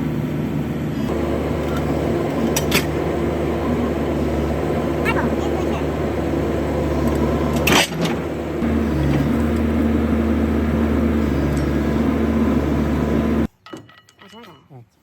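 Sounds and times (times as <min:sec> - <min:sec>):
excavator diesel engine running: 0:00.0 - 0:13.5.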